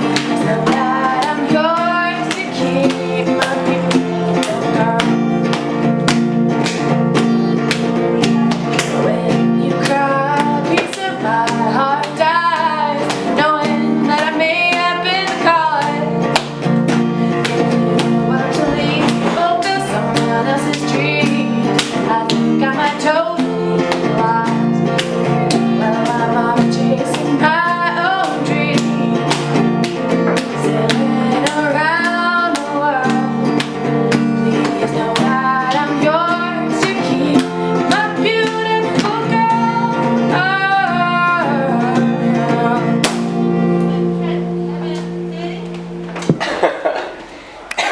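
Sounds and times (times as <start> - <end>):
strummed acoustic guitar: 0.0 - 47.9.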